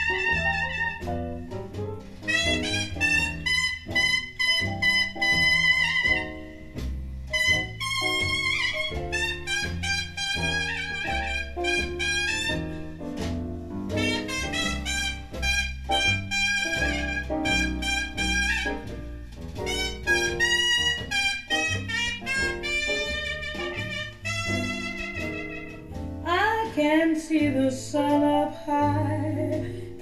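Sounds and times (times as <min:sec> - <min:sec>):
jazz trumpet solo: 0:00.0 - 0:27.1
bass line: 0:00.0 - 0:30.0.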